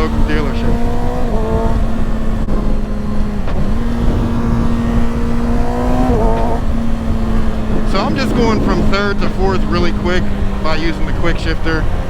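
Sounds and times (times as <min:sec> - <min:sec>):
low wind rumble: 0:00.0 - 0:12.0
motorcycle engine running: 0:00.0 - 0:12.0.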